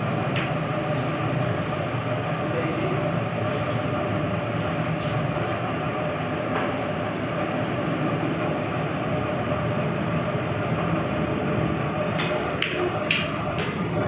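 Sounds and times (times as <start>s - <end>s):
machine drone: 0.0s - 14.0s.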